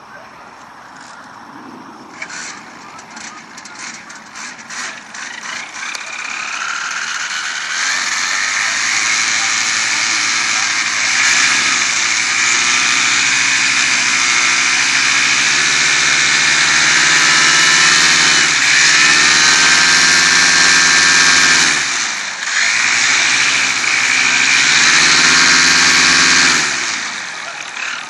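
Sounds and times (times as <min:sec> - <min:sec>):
paramotor engine and propeller: 0:01.0 - 0:28.0.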